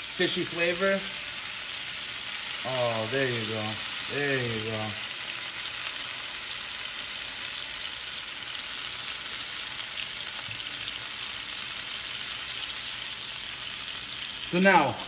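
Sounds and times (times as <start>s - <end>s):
fish sizzling in a frying pan: 0.0s - 15.0s.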